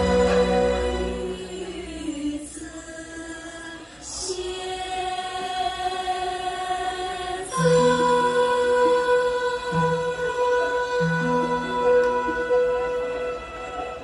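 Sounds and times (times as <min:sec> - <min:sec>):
slow classical dance music: 0:00.0 - 0:14.0.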